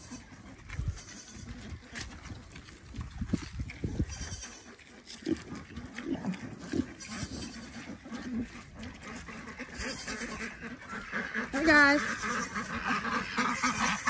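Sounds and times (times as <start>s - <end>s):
farm animals calling: 0.0s - 14.0s.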